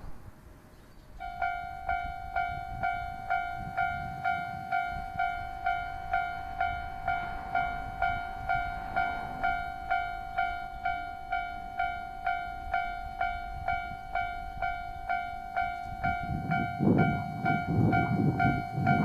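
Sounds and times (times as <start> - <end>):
level crossing warning bell: 1.2 - 19.0.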